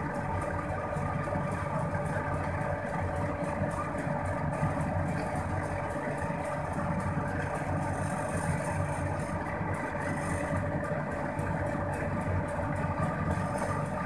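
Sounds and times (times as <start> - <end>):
oven fan humming: 0.0 - 14.0.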